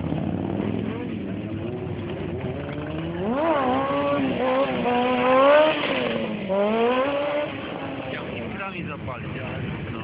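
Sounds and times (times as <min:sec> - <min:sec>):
motorcycle engine revving hard: 0:00.0 - 0:08.9.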